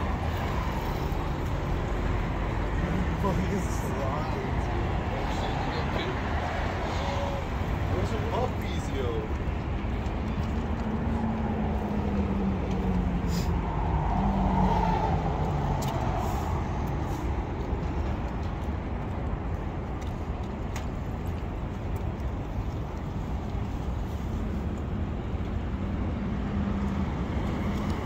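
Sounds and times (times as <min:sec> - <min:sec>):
low traffic rumble: 0:00.0 - 0:28.0.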